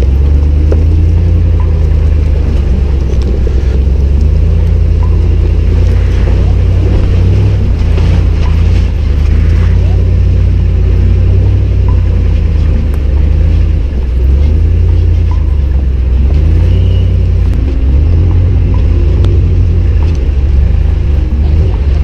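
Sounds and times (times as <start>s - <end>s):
truck engine rumbling: 0.0s - 22.0s.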